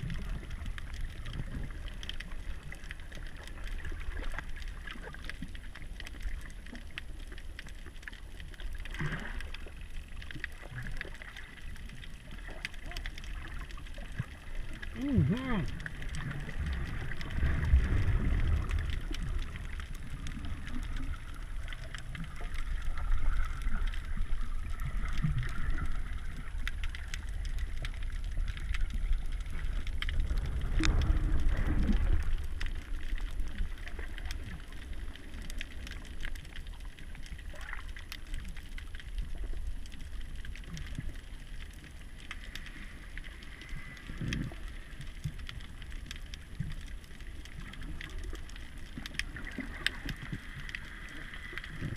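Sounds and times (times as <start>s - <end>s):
faint clicks: 0.0s - 51.9s
underwater rumble of moving water: 0.0s - 51.9s
water gurgles: 0.0s - 51.9s.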